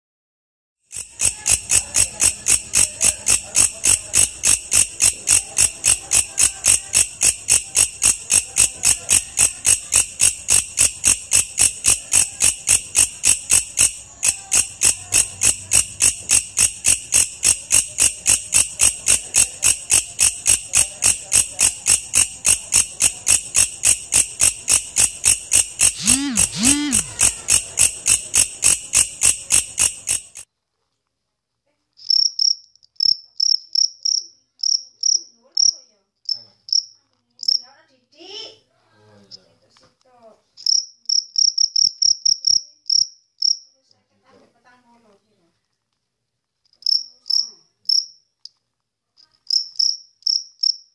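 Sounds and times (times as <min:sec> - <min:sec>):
insect chirping: 0:00.9 - 0:30.5, 0:32.0 - 0:37.6, 0:40.6 - 0:43.7, 0:46.8 - 0:48.2, 0:49.5 - 0:50.9.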